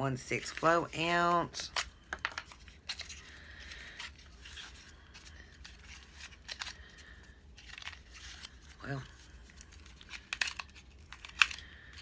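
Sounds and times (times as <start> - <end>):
packaging clicks and rustles: 1.5 - 12.0
packaging tearing: 1.6 - 12.0.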